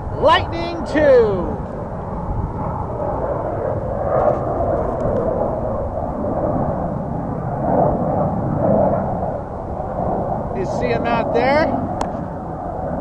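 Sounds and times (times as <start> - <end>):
distant jet engine rumble: 0.0 - 13.0.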